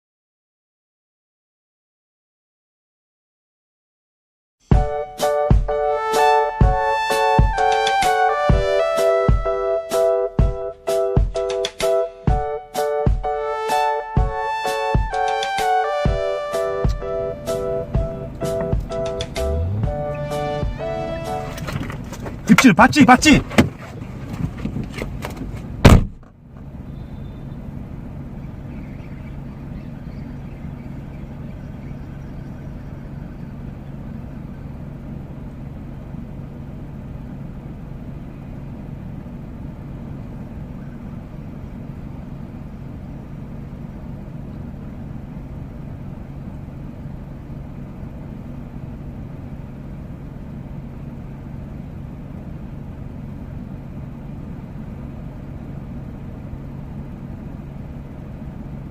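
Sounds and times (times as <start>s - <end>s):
car engine idling: 4.7s - 58.9s.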